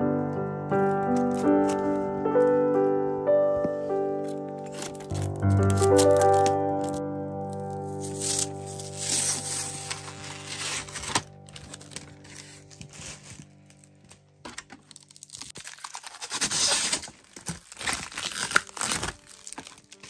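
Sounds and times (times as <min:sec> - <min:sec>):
background music: 0:00.0 - 0:20.0
plastic film crinkling: 0:00.8 - 0:02.7, 0:03.6 - 0:20.0.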